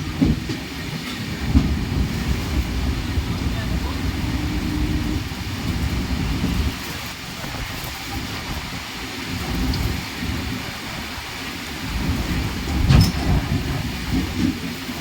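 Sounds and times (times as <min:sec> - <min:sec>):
train rushing and rumbling: 0:00.0 - 0:15.0.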